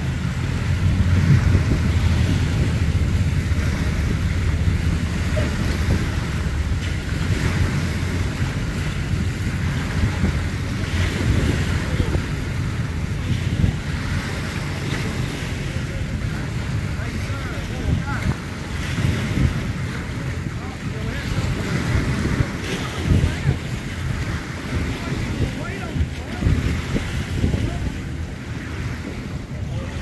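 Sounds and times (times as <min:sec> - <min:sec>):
lake water lapping and splashing: 0:00.0 - 0:30.0
wind buffeting microphone: 0:00.0 - 0:30.0.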